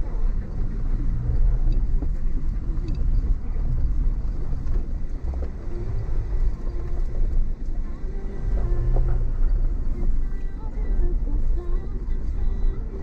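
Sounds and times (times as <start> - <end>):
car interior engine rumble: 0.0 - 13.0.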